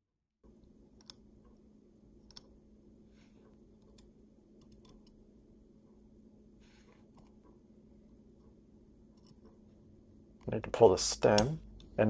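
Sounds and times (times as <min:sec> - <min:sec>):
low steady hum: 0:00.4 - 0:12.0.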